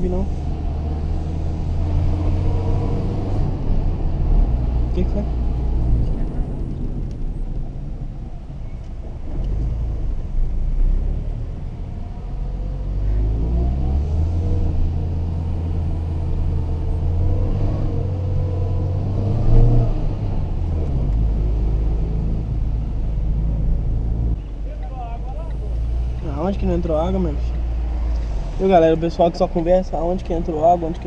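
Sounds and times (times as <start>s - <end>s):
car engine rumble: 0.0s - 31.0s
road noise: 0.0s - 31.0s.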